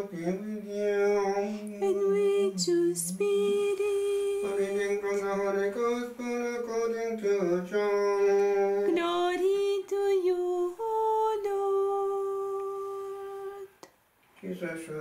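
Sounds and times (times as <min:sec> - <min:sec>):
person chanting plainchant: 0:00.0 - 0:13.7.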